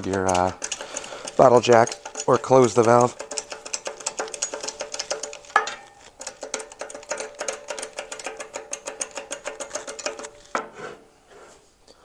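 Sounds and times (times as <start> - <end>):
small machine ticking rattle: 0.0 - 5.6, 6.2 - 10.3.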